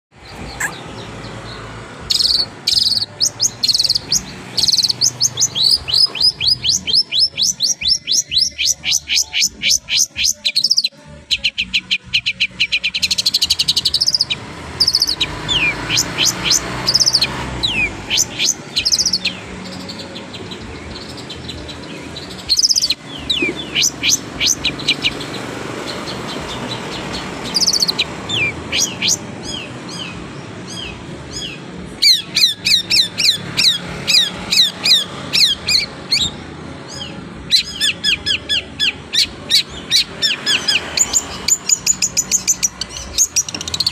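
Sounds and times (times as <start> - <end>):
shrike chirping song: 0.1 - 43.9.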